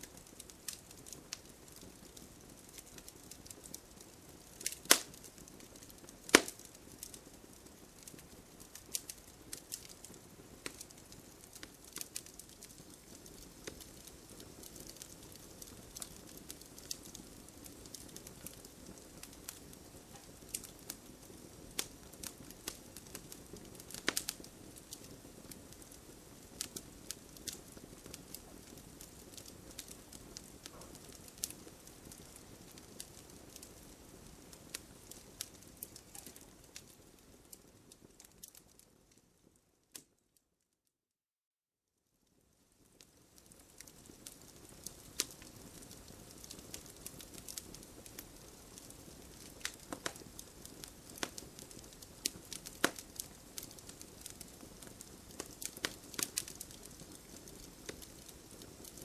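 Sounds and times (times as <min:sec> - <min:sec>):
wood fire crackling: 0:00.0 - 0:40.4, 0:42.2 - 0:59.0.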